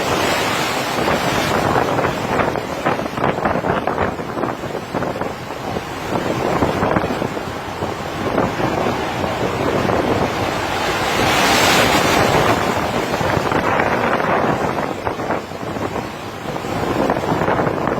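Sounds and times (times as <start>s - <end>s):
sea water rushing over ship: 0.0s - 17.9s
wind buffeting microphone: 0.0s - 17.9s.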